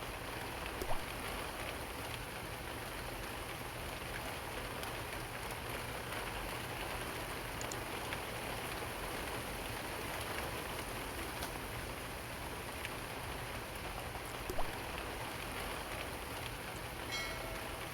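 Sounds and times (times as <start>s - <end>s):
rain falling on leaves: 0.0s - 17.9s.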